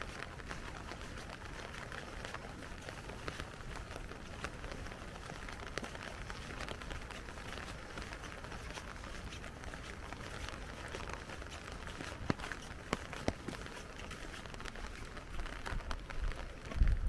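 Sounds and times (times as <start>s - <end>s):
raindrops ticking on umbrella: 0.0s - 17.0s.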